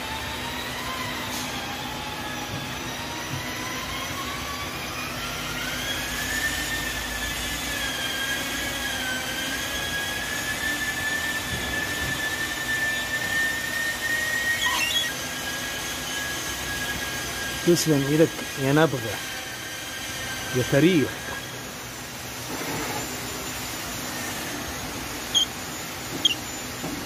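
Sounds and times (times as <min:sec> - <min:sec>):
electric motor whine: 0:00.0 - 0:27.0.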